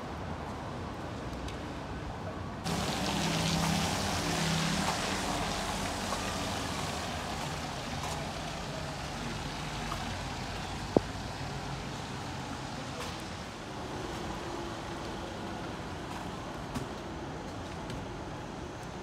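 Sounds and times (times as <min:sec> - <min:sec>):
traffic hiss: 0:00.1 - 0:19.0.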